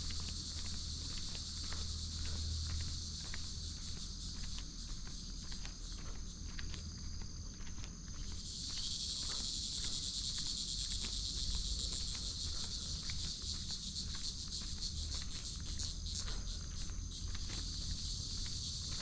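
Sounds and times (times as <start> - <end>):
footsteps on a path: 0.0 - 19.0
insect chorus buzzing: 0.0 - 19.0.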